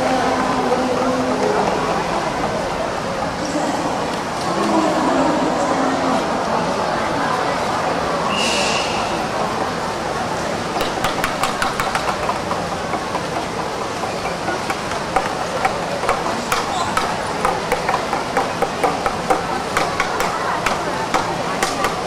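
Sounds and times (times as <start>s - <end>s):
crowd noise: 0.0s - 22.0s.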